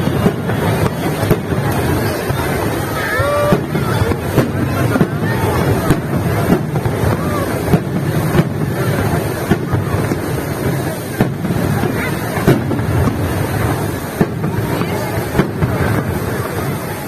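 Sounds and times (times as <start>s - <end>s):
crowd chatter: 0.0s - 17.0s
fireworks banging: 0.0s - 17.0s.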